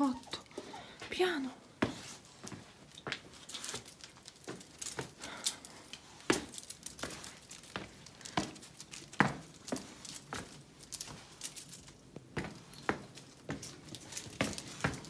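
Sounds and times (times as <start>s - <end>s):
footsteps on stone paving: 0.9s - 15.0s.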